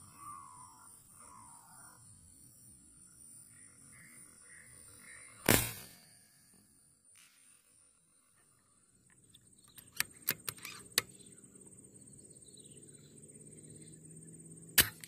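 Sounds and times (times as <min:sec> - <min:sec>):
faint high chirping calls: 0:00.0 - 0:14.7.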